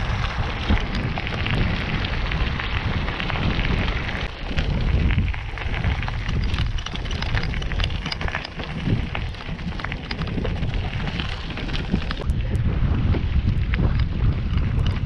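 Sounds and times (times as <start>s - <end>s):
bicycle tyres crunching on gravel: 0.0s - 15.0s
wind buffeting microphone: 0.0s - 15.0s.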